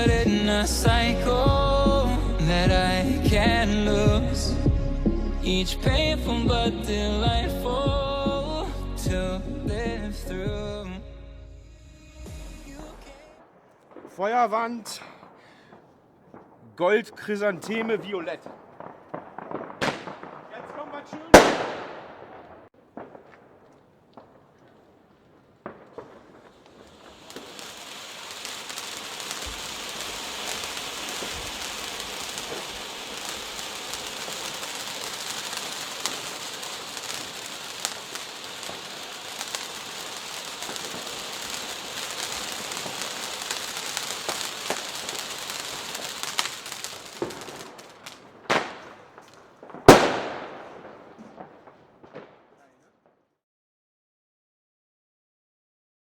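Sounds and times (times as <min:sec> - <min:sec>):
firework bangs: 0:00.0 - 0:10.8, 0:11.9 - 0:53.2
firework fountains crackling: 0:00.0 - 0:10.8, 0:12.2 - 0:52.9.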